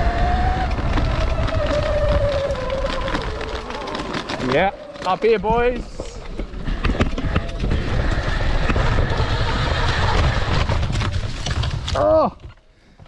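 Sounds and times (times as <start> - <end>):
rumble of wind and tyres: 0.0 - 13.0.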